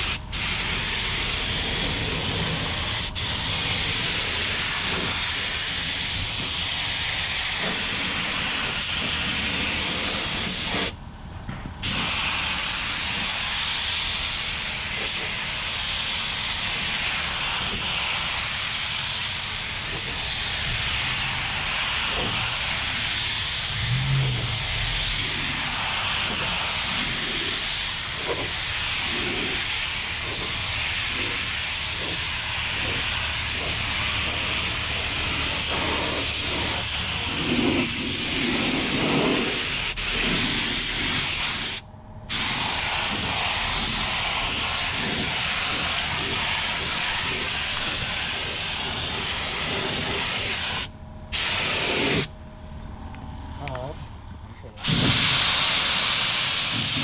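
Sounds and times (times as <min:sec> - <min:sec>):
spray gun hissing: 0:00.0 - 0:11.0, 0:11.8 - 0:52.3, 0:54.8 - 0:57.0.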